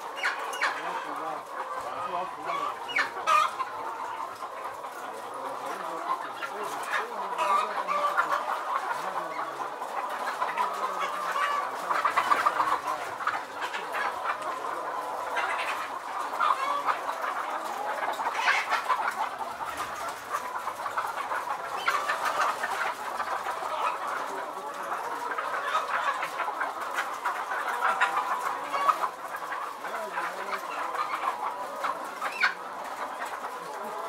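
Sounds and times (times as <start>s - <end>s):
hens clucking: 0.0s - 34.0s.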